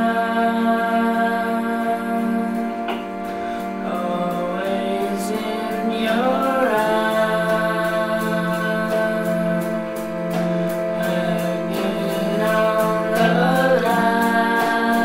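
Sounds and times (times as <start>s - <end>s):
drone of layered held tones: 0.0s - 15.0s.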